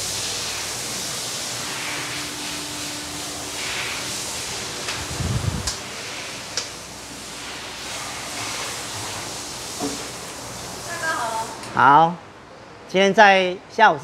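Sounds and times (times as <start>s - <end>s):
hissing room noise: 0.0s - 13.5s.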